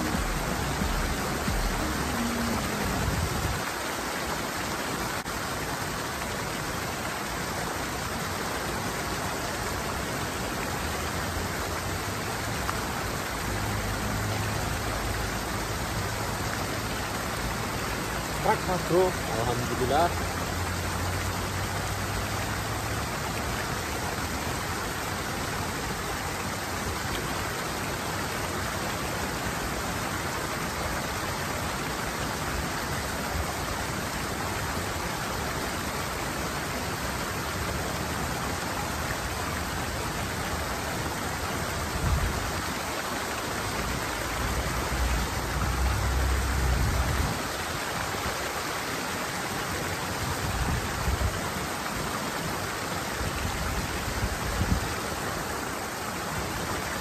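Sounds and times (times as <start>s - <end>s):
water rushing over drop: 0.0s - 57.0s.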